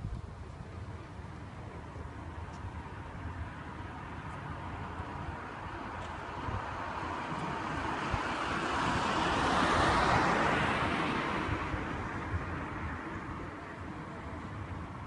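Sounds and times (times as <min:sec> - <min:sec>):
car tyre noise passing: 0:01.3 - 0:15.0.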